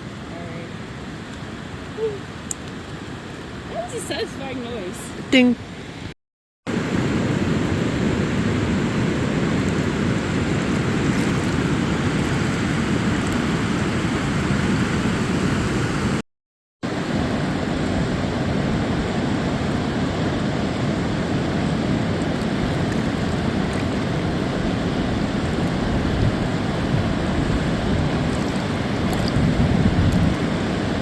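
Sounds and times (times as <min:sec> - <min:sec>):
river rushing: 0:00.0 - 0:05.0, 0:06.7 - 0:16.2, 0:16.9 - 0:31.0.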